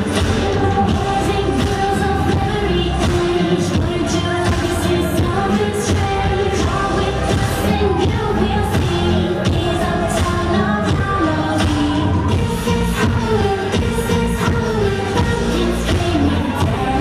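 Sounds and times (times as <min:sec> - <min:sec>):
recorded song with singing: 0:00.0 - 0:17.0.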